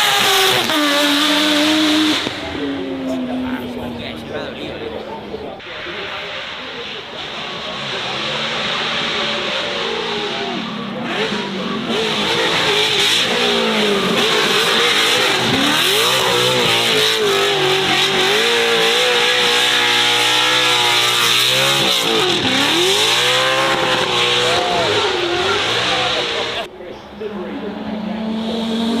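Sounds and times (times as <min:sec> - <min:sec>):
racing car engine running hard: 0:00.0 - 0:29.0.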